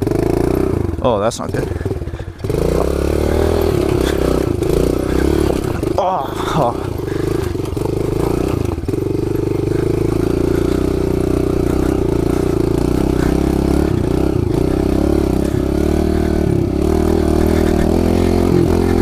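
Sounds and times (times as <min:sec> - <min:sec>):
small motorbike engine at high revs: 0:00.0 - 0:19.0.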